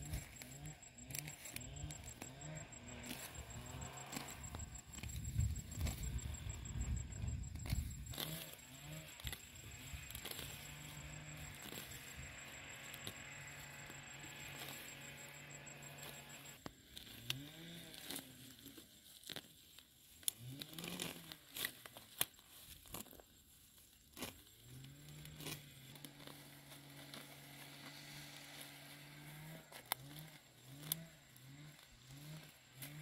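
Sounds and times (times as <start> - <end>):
grass being pulled up by hand: 0.0 - 33.0.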